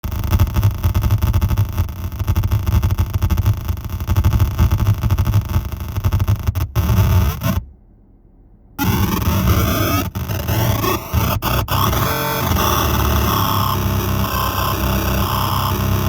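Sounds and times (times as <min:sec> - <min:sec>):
glitchy digital synth noise: 0:00.0 - 0:07.6, 0:08.8 - 0:16.0.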